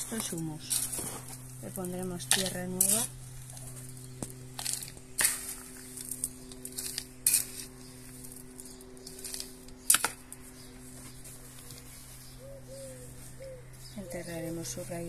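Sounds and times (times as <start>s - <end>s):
trowel scraping potting mix: 0.0s - 12.4s
low steady hum: 0.0s - 15.0s.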